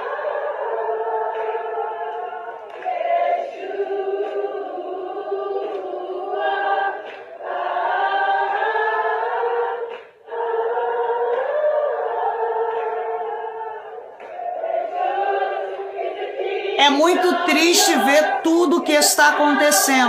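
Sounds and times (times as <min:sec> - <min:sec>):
choir singing without instruments: 0:00.0 - 0:20.0.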